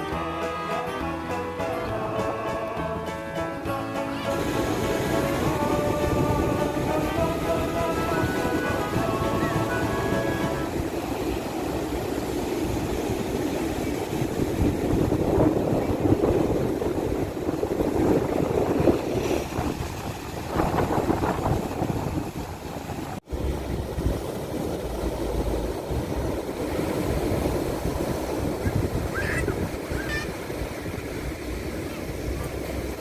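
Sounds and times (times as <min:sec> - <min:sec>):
surf breaking on beach: 0:00.0 - 0:33.0
wind buffeting microphone: 0:04.3 - 0:33.0.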